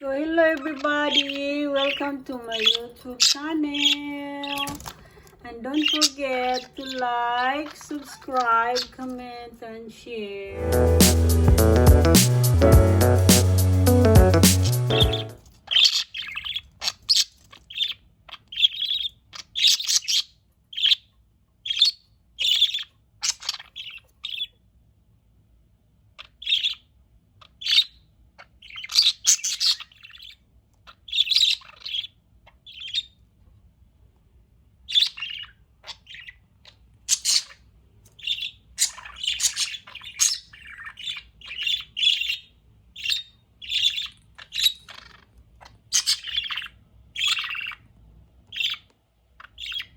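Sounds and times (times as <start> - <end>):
budgerigars chirping: 0.4 - 9.1, 10.6 - 24.6, 26.2 - 33.2, 34.8 - 47.9, 48.5 - 49.9.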